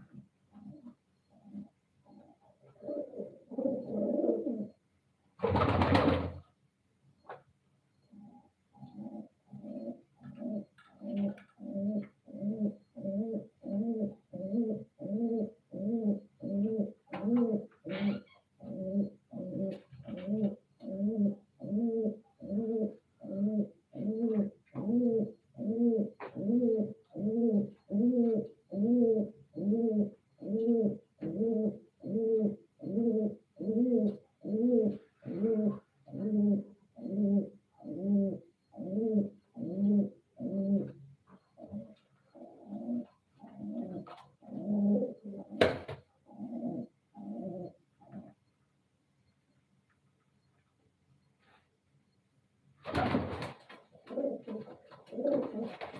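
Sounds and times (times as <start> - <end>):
pigeons cooing: 0.0 - 4.8, 8.1 - 48.4, 52.9 - 55.9.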